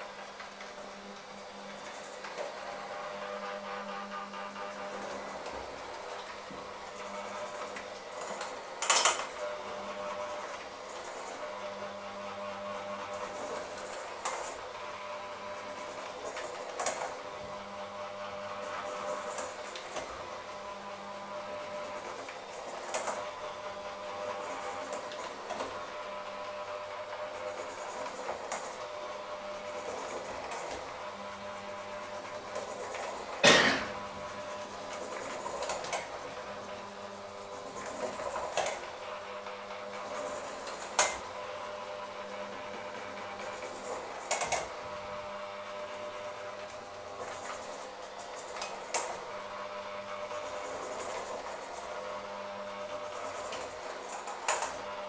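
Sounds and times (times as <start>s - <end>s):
electric hand mixer running: 0.0s - 55.0s.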